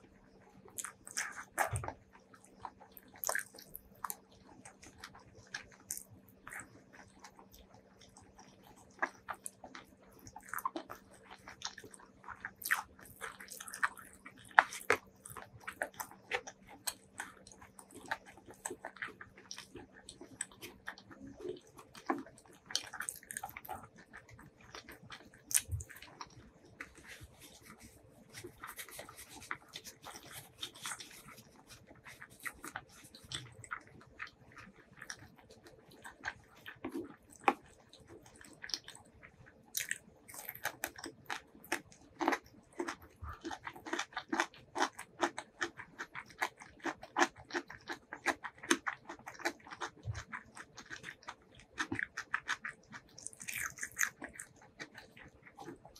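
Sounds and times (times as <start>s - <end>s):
chewing food: 0.0s - 55.9s.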